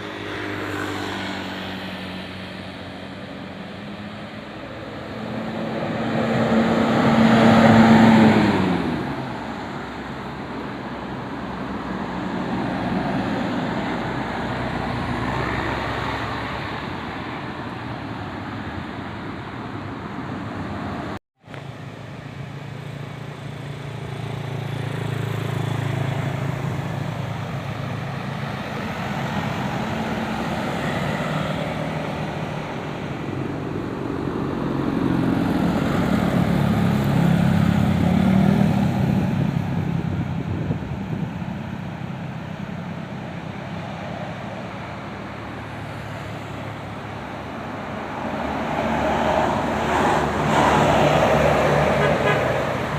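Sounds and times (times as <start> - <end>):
vehicle passing close: 0.0 - 17.2, 22.3 - 52.9
road noise: 0.0 - 52.9.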